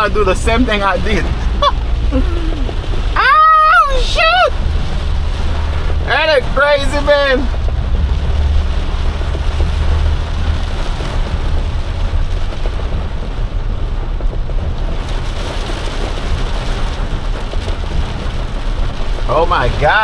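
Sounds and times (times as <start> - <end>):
heavy rain on truck cab: 0.0 - 20.0
truck engine and road noise: 0.0 - 20.0.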